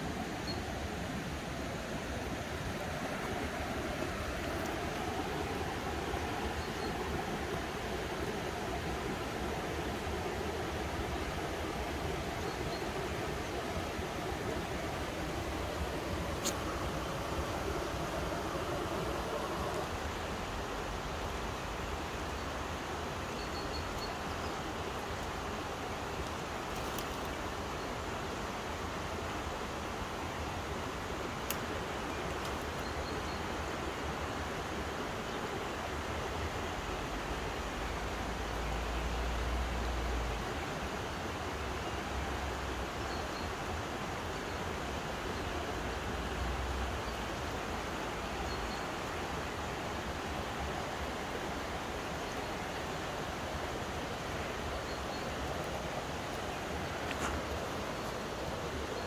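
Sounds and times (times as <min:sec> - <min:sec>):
river flowing: 0:00.0 - 0:59.0.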